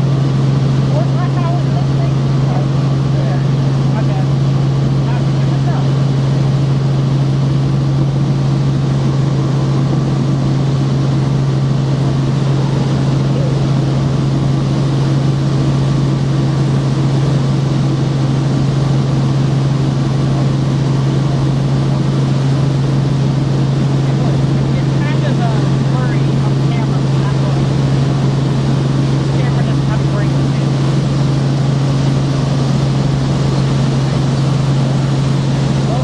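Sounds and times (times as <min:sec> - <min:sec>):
helicopter engine and rotors drone: 0:00.0 - 0:36.0.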